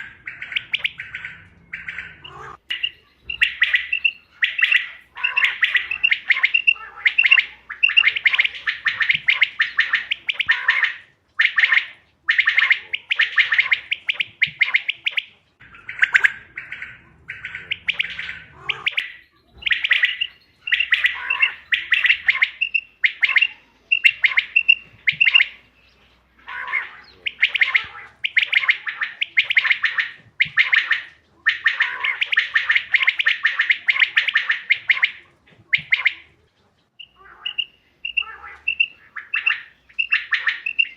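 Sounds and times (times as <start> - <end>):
quail calling: 0.0 - 40.9.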